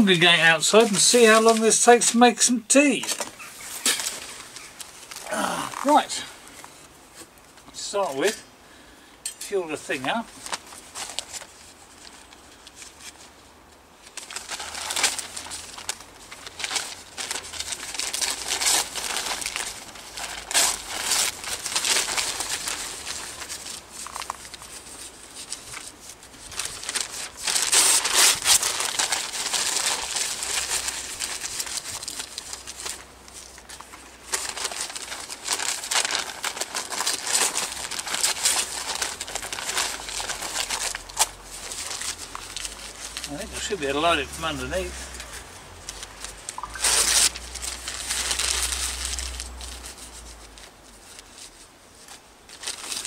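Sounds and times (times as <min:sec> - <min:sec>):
paper tearing and crumpling: 0:02.8 - 0:06.3, 0:09.8 - 0:13.3, 0:14.0 - 0:53.0.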